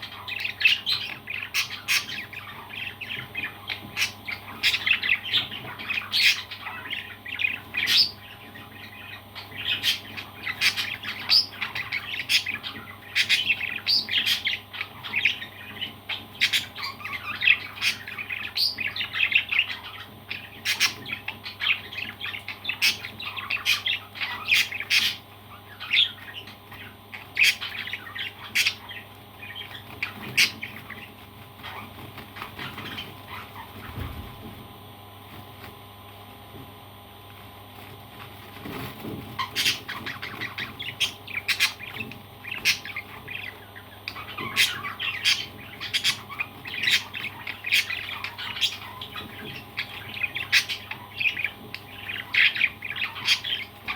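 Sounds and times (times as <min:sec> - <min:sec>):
parrots chirping and squawking: 0:00.0 - 0:34.6, 0:38.6 - 0:53.9.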